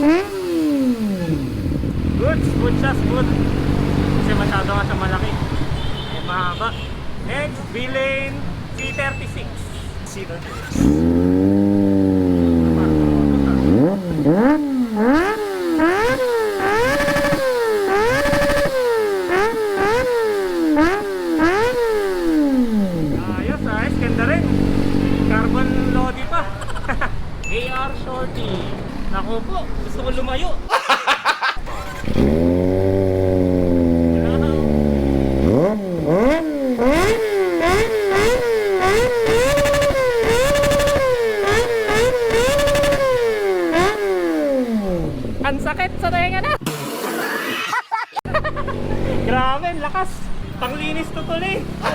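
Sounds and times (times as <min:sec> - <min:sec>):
motorcycle engine revving: 0:00.0 - 0:30.2, 0:31.6 - 0:51.9.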